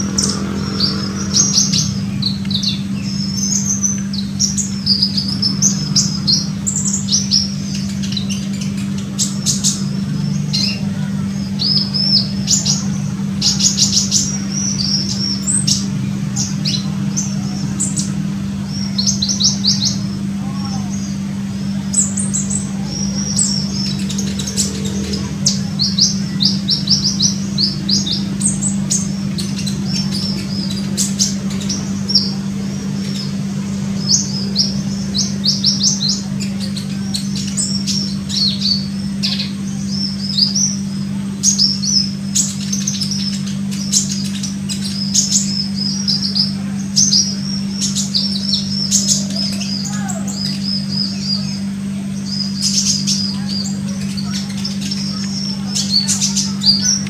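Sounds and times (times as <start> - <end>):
bird chirping and trilling: 0.0 - 57.0
steady low hum: 0.0 - 57.0.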